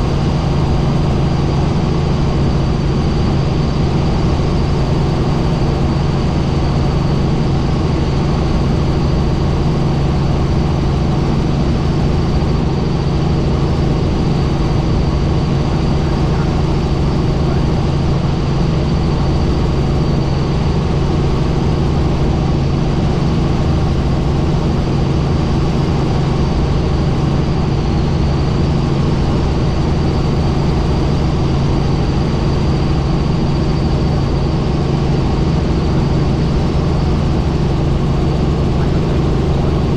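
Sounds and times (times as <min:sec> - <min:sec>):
helicopter engine and rotor drone: 0:00.0 - 0:39.9
high whine: 0:00.0 - 0:39.9.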